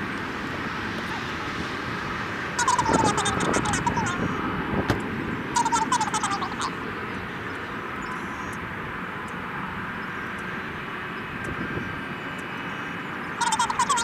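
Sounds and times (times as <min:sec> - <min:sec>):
jet engine rumble: 0:00.0 - 0:13.4.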